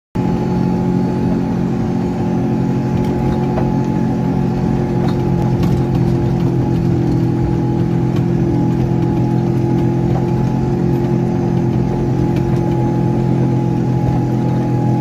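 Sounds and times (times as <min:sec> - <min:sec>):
car engine pulling under load: 0:02.2 - 0:15.0.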